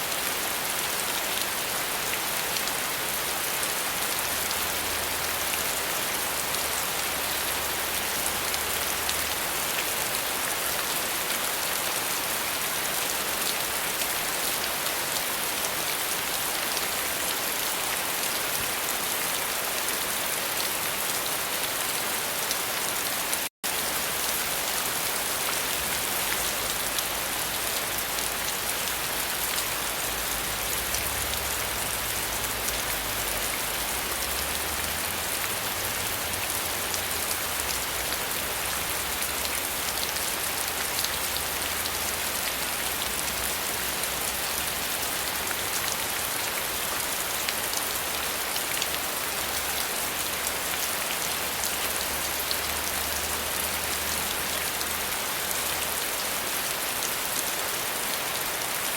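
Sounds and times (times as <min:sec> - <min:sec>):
dense rain falling: 0:00.0 - 0:58.9.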